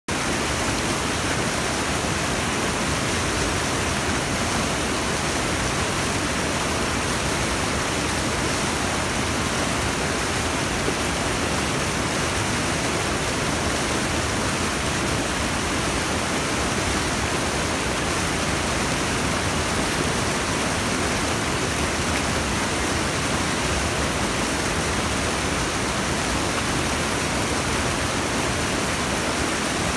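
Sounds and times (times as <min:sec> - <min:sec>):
water rushing over rocks: 0:00.1 - 0:29.9.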